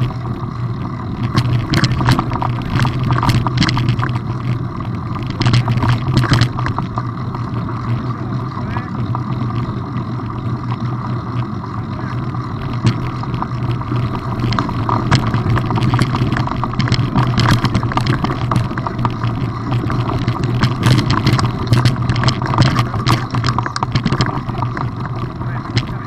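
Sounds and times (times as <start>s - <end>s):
bicycle tyres rumbling on gravel: 0.0s - 26.0s
clicks and rattles over stones: 0.0s - 26.0s.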